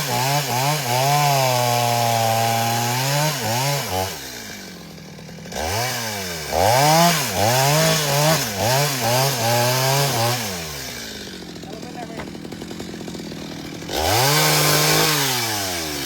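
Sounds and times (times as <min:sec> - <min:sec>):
chainsaw engine revving: 0:00.0 - 0:16.0.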